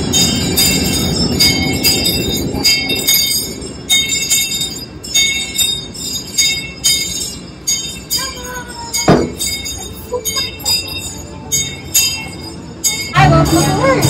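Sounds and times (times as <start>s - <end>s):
sleigh bells jingling: 0.0s - 14.0s.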